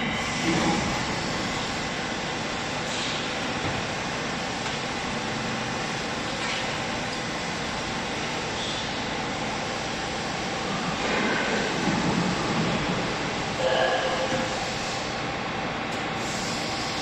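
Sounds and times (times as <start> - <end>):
hydraulic baling press running: 0.0 - 17.0.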